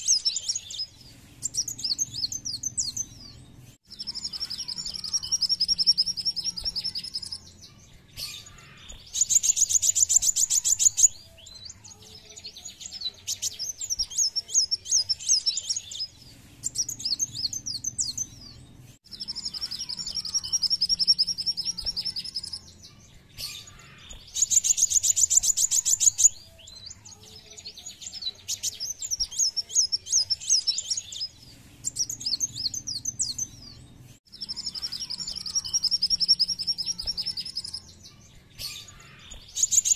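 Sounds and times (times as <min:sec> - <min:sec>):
sunbird singing trills: 0:00.0 - 0:39.9.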